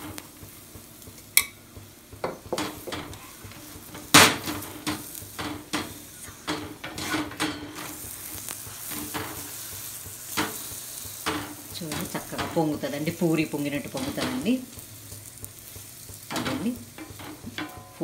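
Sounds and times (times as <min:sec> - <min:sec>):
flatbread sizzling on a griddle: 0:00.0 - 0:18.0
spatula scraping a griddle: 0:02.5 - 0:18.0.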